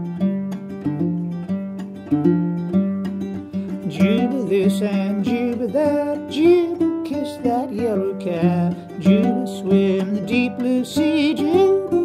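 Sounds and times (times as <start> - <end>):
banjo-like guitar plucking: 0.0 - 12.0.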